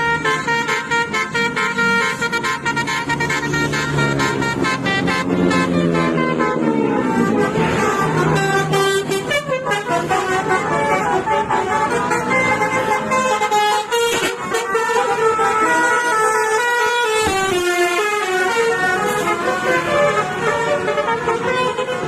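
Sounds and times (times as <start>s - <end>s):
musical air horn playing a tune: 0.0s - 22.0s.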